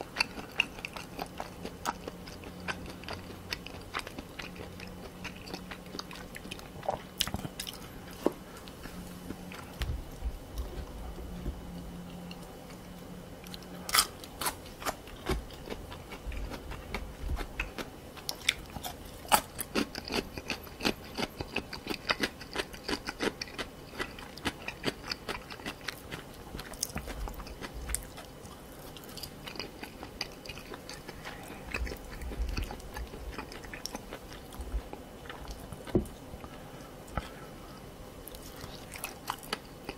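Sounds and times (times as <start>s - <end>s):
chewing crunchy cartilage: 0.0s - 39.9s.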